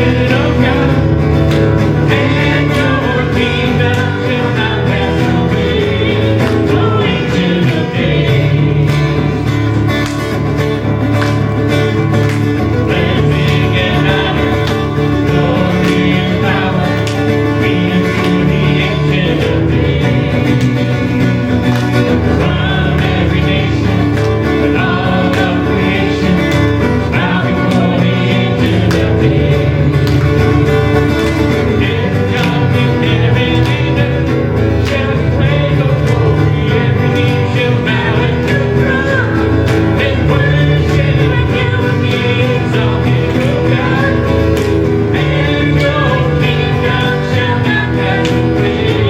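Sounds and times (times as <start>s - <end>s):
country song with guitar and singing: 0.0s - 49.0s.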